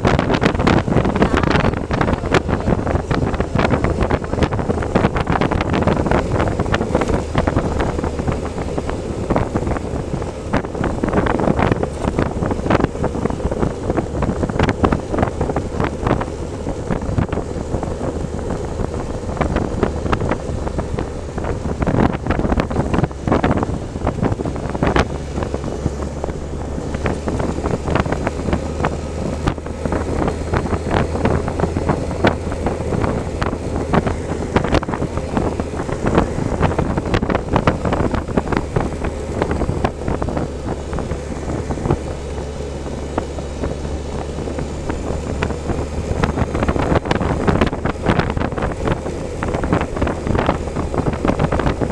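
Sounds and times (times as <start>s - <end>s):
motorcycle engine hum: 0.0s - 51.9s
wind buffeting microphone: 0.0s - 51.9s.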